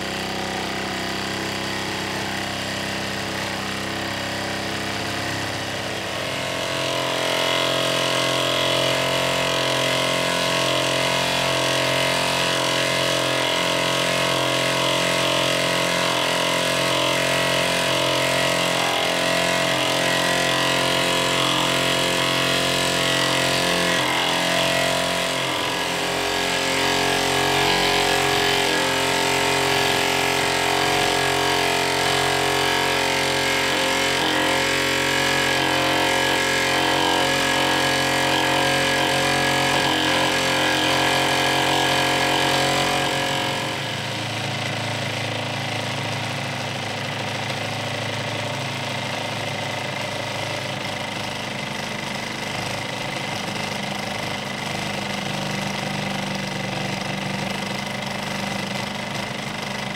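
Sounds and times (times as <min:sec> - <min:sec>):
toy steam engine running: 0:00.0 - 0:48.4.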